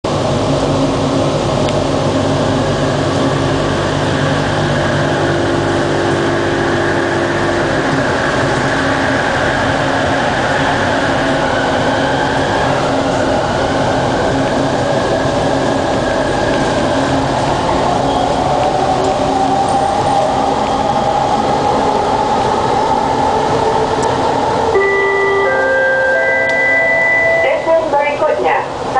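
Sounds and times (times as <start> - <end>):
train rolling rumble: 0.0 - 28.9.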